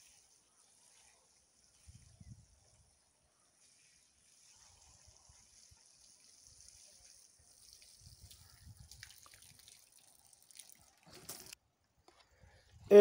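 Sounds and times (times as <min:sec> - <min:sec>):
water trickling onto soil: 0:00.0 - 0:11.6.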